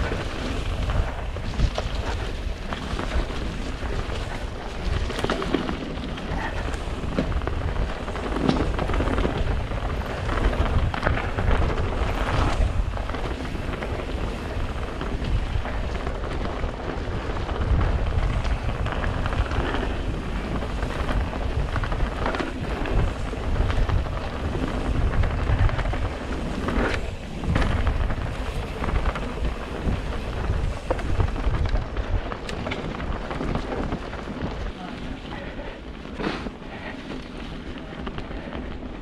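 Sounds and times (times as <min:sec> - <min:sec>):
bike knocks and rattles: 0:00.0 - 0:34.8
tyres rolling over dirt and stones: 0:00.0 - 0:39.0
wind rumble on microphone: 0:00.0 - 0:39.0.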